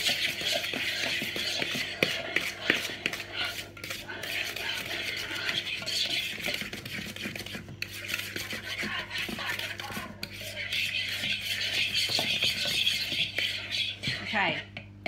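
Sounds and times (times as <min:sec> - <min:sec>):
fork beating eggs in bowl: 0:00.0 - 0:15.0.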